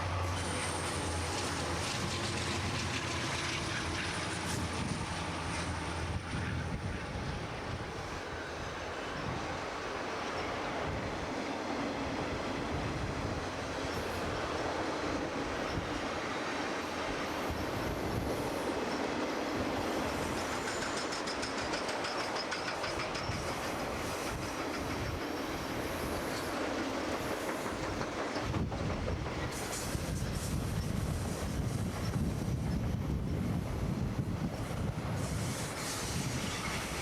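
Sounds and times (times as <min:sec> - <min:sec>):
train cars rolling on rails: 0:00.0 - 0:37.0.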